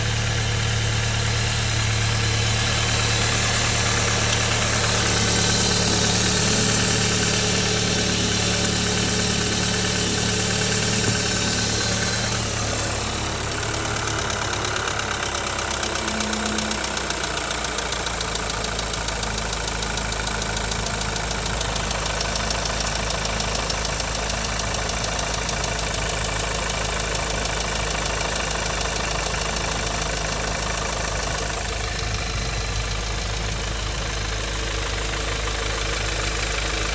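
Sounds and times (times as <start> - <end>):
car engine idling: 0.0 - 36.9
quick regular engine ticking: 0.0 - 36.9.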